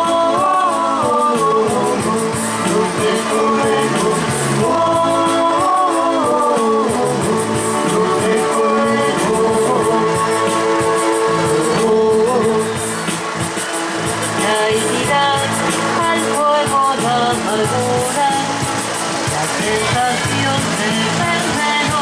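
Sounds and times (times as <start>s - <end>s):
rock song with singing: 0.0s - 22.0s.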